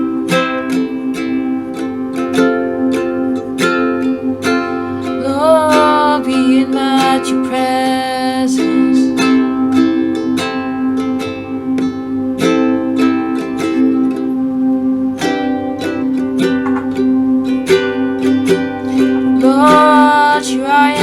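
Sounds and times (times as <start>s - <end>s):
acoustic string instrument strummed: 0.0s - 21.0s
person singing long notes: 3.4s - 21.0s.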